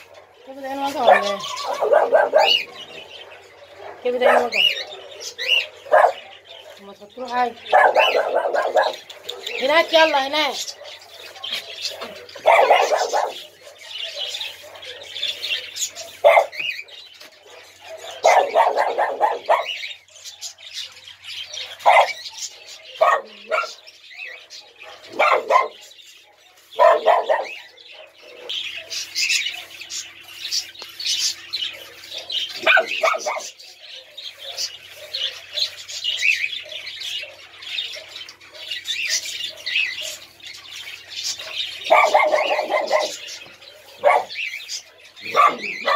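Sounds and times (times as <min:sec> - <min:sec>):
birds chirping: 0:00.0 - 0:45.9
small dogs yapping and barking: 0:00.0 - 0:45.9.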